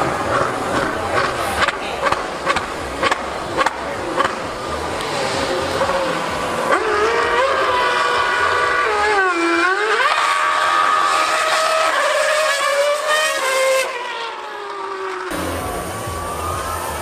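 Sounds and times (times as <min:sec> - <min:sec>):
racing engine revving: 0:00.0 - 0:17.0.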